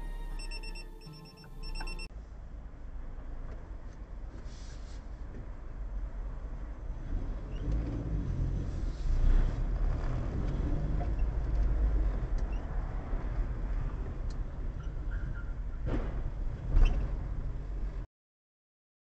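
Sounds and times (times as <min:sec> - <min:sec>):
vehicle engine rumble: 0:00.0 - 0:18.1.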